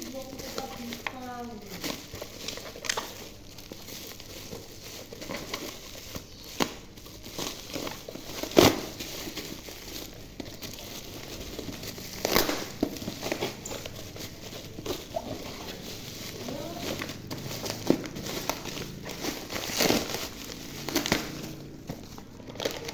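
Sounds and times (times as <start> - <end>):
packaging crinkling: 0.0 - 22.9.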